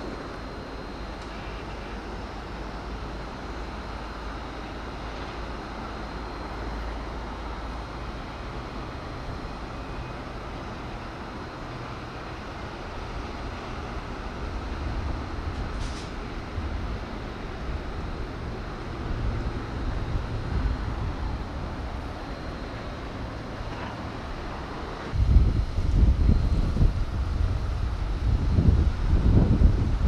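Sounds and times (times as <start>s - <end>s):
low rumbling background noise: 0.0s - 30.0s.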